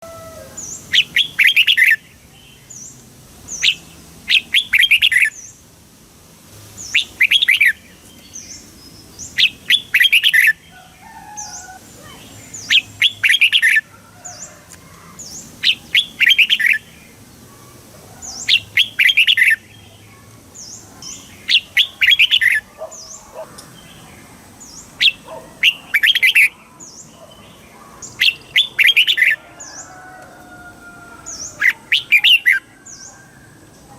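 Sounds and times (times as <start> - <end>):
bird singing warbled phrases: 0.2 - 5.6, 6.7 - 30.0, 31.1 - 33.9.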